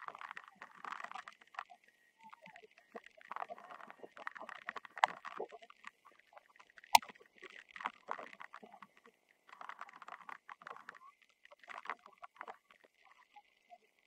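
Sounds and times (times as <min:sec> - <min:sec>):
faint tapping and patter: 0:00.0 - 0:14.0.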